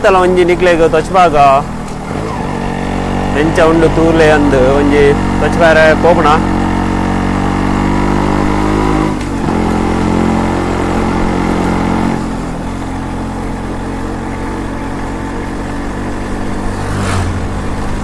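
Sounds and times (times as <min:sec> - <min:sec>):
two-stroke motorcycle engine running: 0:00.0 - 0:18.0.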